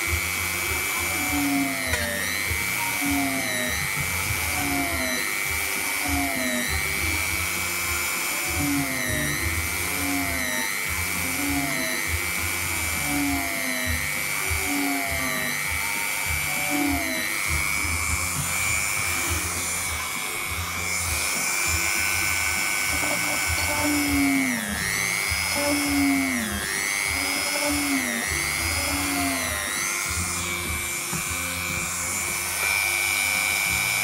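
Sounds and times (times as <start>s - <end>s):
rotary tool whining: 0.0s - 34.0s.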